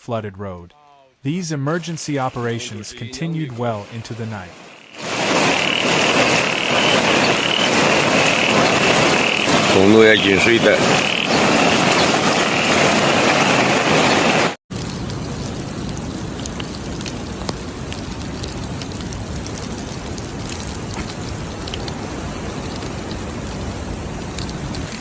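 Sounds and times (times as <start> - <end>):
heavy rain falling: 1.8 - 25.0
rain drop ticks: 2.1 - 25.0.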